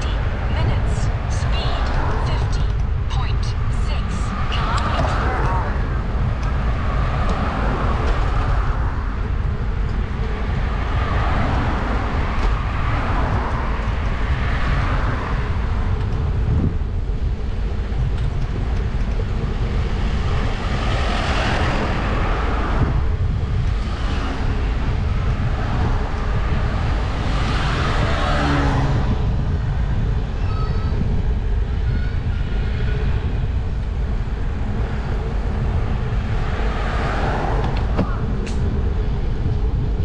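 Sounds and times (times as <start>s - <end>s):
cars passing: 0.0s - 40.0s
wind rumble on microphone: 0.0s - 40.0s.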